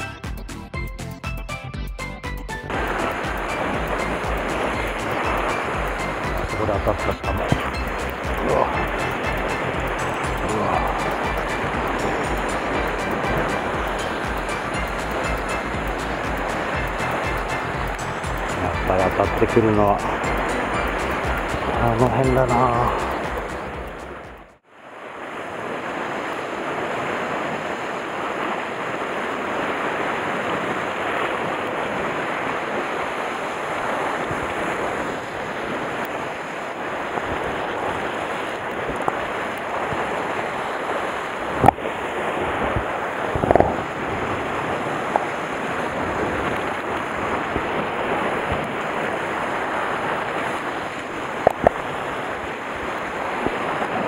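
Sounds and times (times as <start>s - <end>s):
wind on microphone: 2.7s - 24.5s, 25.2s - 54.0s
surf breaking on rocks: 2.7s - 54.0s.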